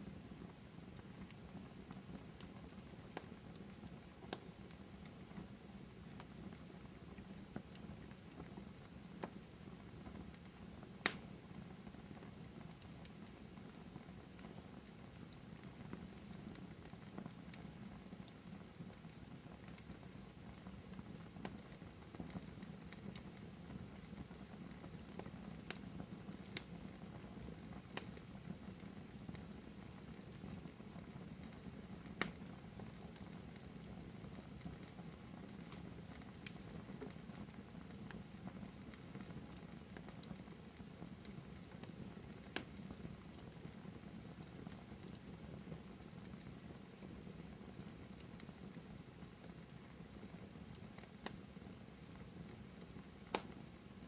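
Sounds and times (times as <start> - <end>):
wood fire crackling: 0.0 - 54.0
fire popping: 1.2 - 53.9.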